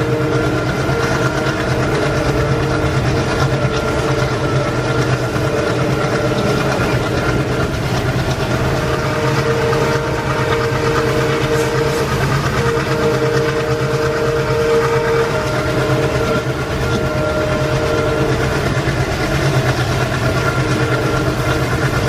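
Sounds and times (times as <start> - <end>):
held mechanical tones: 0.0 - 22.0
train rolling by: 0.0 - 22.0.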